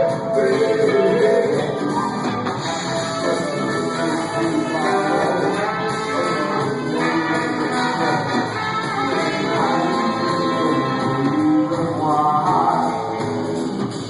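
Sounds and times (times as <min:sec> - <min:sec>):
live band playing with singing: 0:00.0 - 0:14.0.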